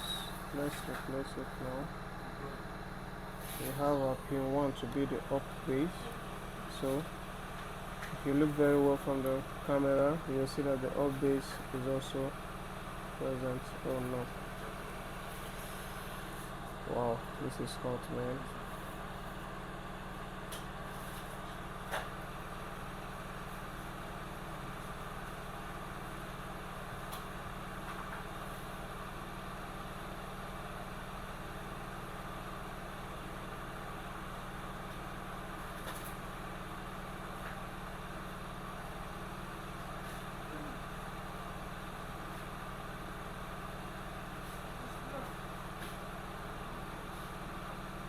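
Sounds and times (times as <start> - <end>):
hot air blower hum and hiss: 0.0 - 48.0.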